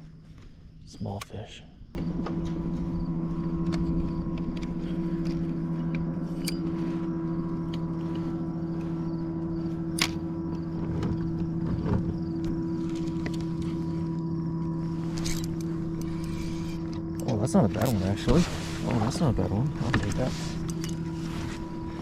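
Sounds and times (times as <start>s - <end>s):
electric motor humming: 2.0s - 22.0s.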